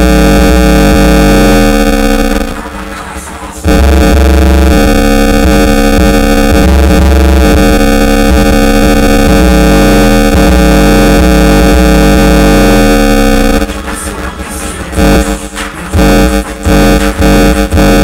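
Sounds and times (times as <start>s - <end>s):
loud distorted bass-heavy music: 0.0s - 18.0s.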